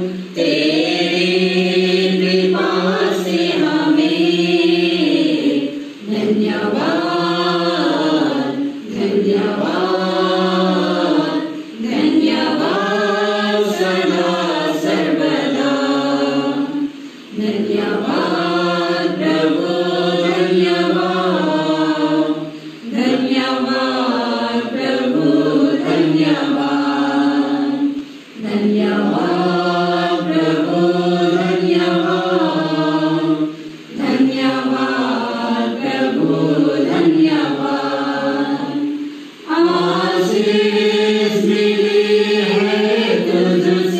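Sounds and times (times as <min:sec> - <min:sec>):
group singing a hymn unaccompanied: 0:00.0 - 0:43.9.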